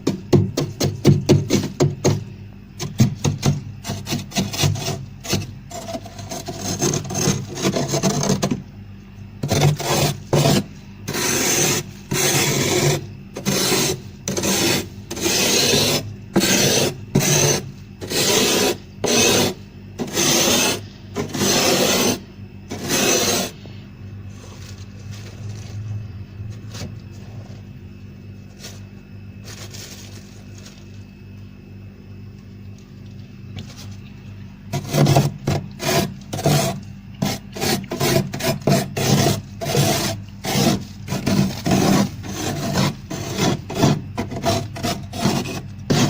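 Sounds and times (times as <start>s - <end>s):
steady low hum: 0.0s - 46.0s
frost scraping in freezer: 0.8s - 8.6s, 9.4s - 23.6s, 24.3s - 27.7s, 28.4s - 31.0s, 34.7s - 46.0s.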